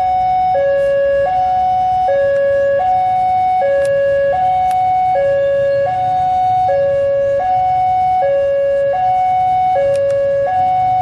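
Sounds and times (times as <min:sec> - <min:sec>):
two-tone electronic warning alarm: 0:00.0 - 0:11.0.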